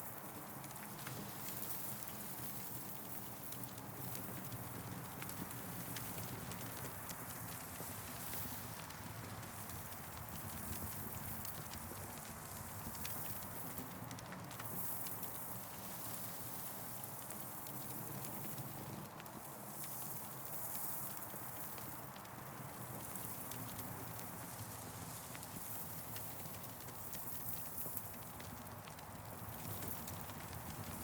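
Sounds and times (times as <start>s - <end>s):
campfire crackling and popping: 0.6s - 31.0s.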